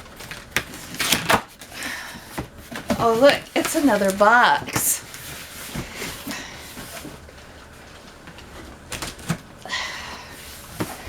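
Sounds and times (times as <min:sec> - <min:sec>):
cardboard boxes rustling and scraping: 0:00.2 - 0:09.4.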